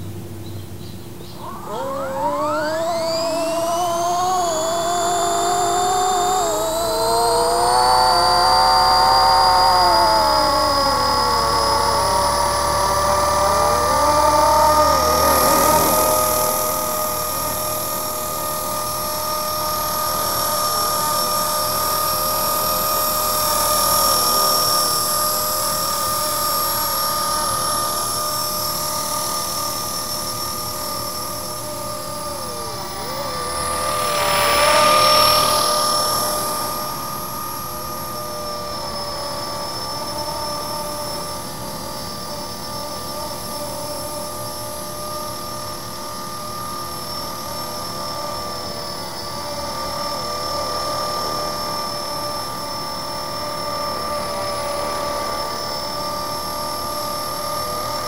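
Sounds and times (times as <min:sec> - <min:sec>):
electric helicopter motor whine: 0:00.0 - 0:58.0.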